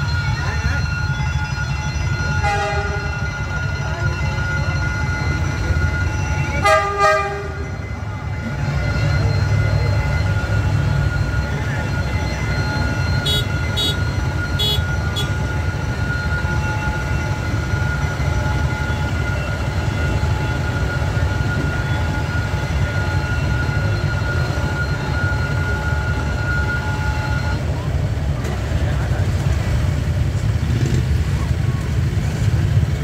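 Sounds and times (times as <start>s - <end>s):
high ringing tone: 0.0s - 27.9s
train wheels rumbling on rails: 0.0s - 33.0s.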